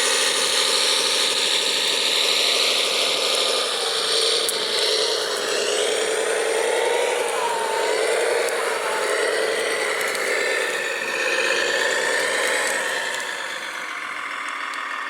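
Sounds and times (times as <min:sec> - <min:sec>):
electric drive whine: 0:00.0 - 0:15.0.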